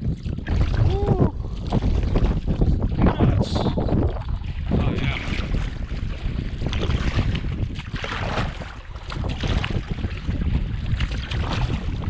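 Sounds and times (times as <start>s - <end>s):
paddle strokes splashing water: 0.0s - 3.2s, 3.8s - 12.0s
water chop against canoe: 0.0s - 3.3s, 3.9s - 12.0s
wind buffeting microphone: 0.0s - 12.0s.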